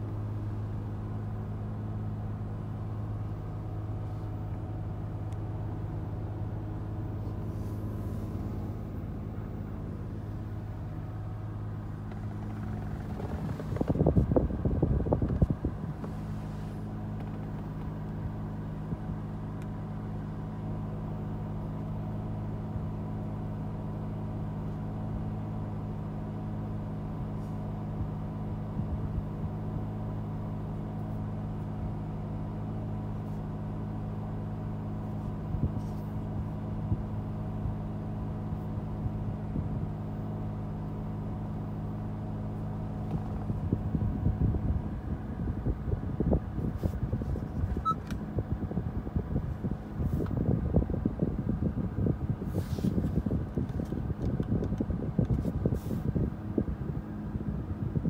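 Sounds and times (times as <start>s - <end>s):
car engine idling: 0.0s - 55.2s.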